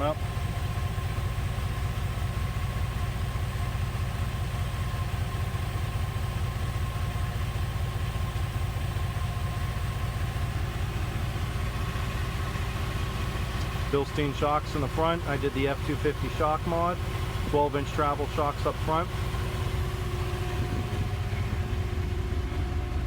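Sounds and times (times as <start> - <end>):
air compressor running: 0.0 - 23.0
engine idling: 0.0 - 23.0.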